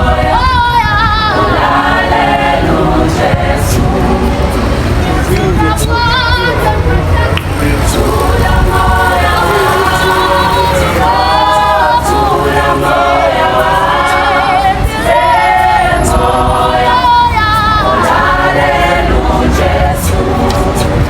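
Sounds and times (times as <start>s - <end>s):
choir singing: 0.0s - 21.0s
low bass: 0.0s - 21.0s.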